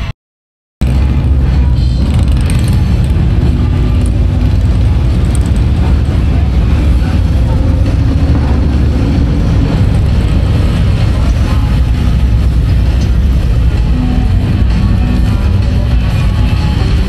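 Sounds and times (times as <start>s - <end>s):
motorcycle engines passing: 0.8s - 17.0s
music playing: 0.8s - 17.0s.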